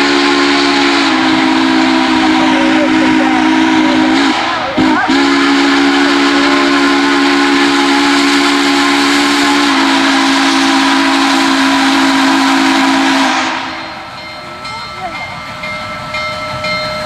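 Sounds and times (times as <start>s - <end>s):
steam locomotive whistle: 0.0s - 16.8s
steam hissing: 0.0s - 17.0s.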